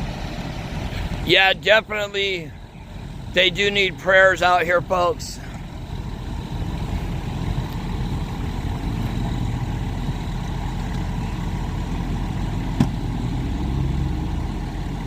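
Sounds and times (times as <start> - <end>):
heavy vehicle engines idling: 0.0 - 15.0.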